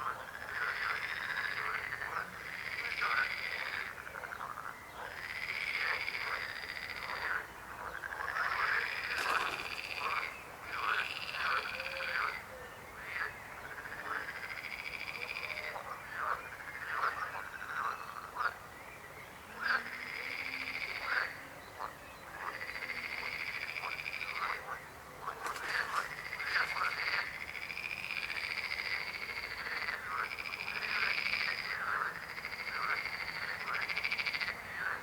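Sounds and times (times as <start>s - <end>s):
frogs croaking: 0.0s - 35.0s.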